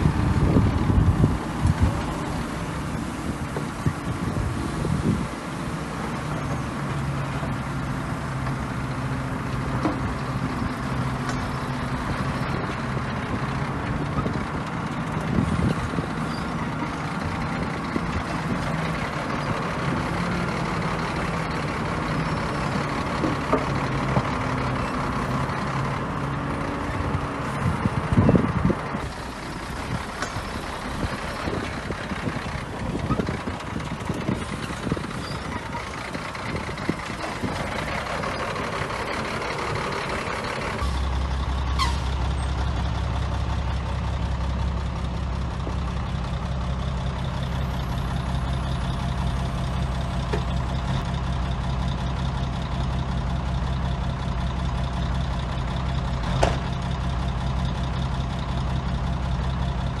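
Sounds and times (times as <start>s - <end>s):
diesel machinery clattering: 0.0s - 60.0s
low diesel engine drone: 0.0s - 60.0s.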